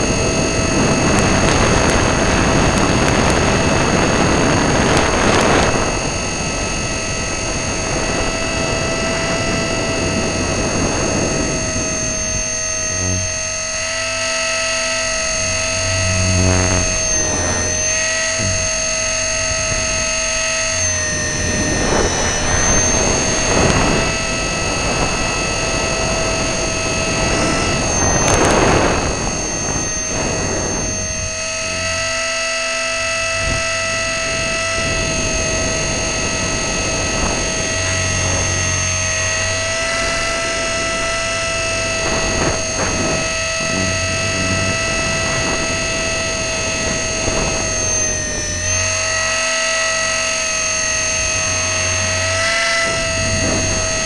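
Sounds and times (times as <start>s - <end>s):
electric motor high whine: 0.0s - 54.0s
rotor and wind rushing: 0.0s - 54.0s.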